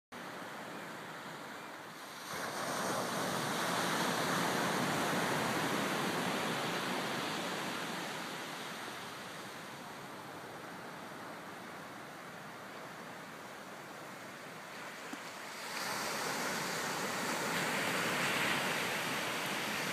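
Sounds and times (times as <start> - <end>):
ocean surf washing onto beach: 0.2 - 19.9.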